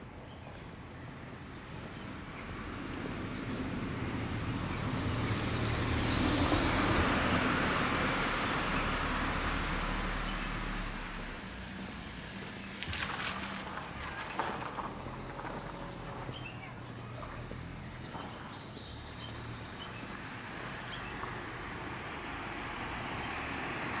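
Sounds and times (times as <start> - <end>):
car passing by: 1.8 - 24.0.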